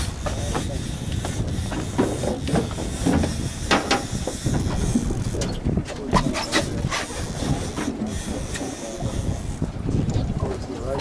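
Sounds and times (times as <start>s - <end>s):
sea rumble: 0.0s - 11.0s
wind: 0.0s - 11.0s.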